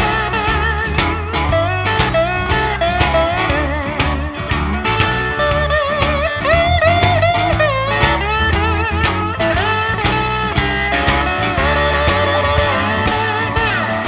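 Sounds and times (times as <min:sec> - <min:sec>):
bass line: 0:00.0 - 0:14.0
electric lead guitar bending notes: 0:00.0 - 0:14.0
steady drum beat: 0:00.0 - 0:14.0.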